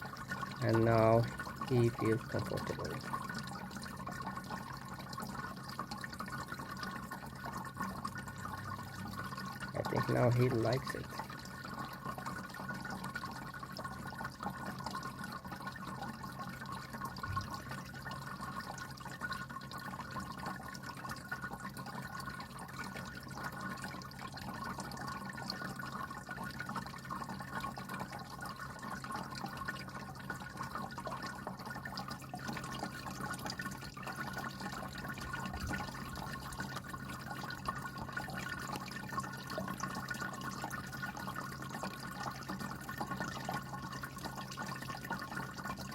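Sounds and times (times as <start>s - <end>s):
small pump humming: 0.0s - 45.9s
water trickling and splashing: 0.0s - 45.9s.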